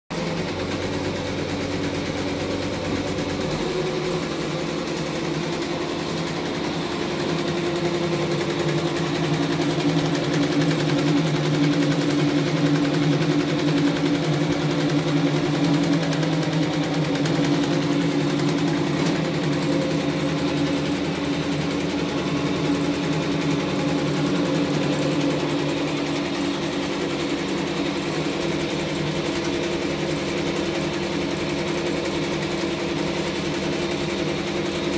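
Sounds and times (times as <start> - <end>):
embroidery machine stitching: 0.1 - 34.9.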